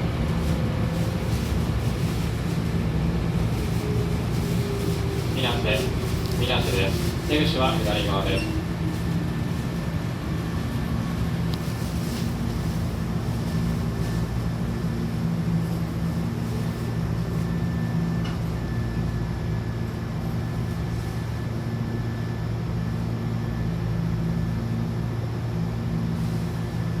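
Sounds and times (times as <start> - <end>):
train running hum: 0.0 - 27.0.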